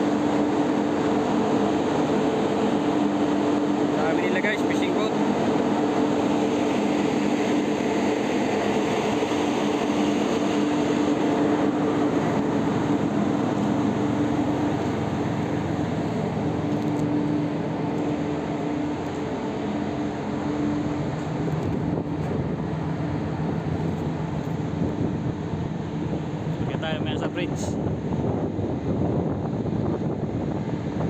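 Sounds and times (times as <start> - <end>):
low machinery hum: 0.0 - 31.0
wind and water rushing: 0.0 - 31.0.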